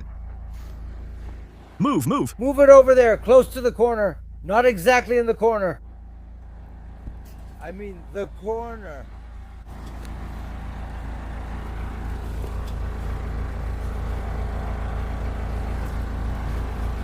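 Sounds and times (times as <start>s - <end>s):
backhoe engine running: 0.0s - 17.0s.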